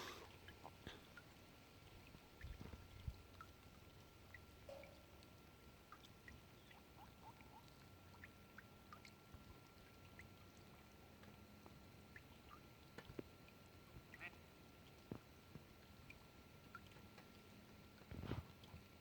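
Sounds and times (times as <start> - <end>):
faint water ambience: 0.0 - 19.0
small ticks and drips: 0.0 - 19.0.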